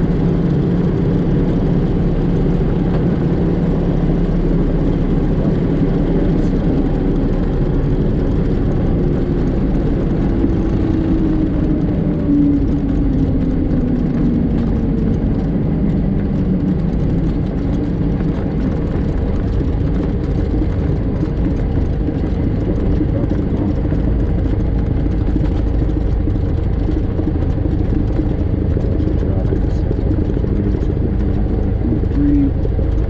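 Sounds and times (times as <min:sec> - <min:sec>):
propeller airplane engine idling: 0:00.0 - 0:33.0.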